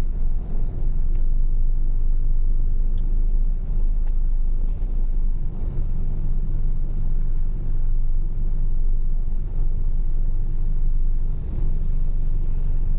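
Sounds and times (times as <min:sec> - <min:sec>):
truck engine rumbling: 0:00.0 - 0:12.9.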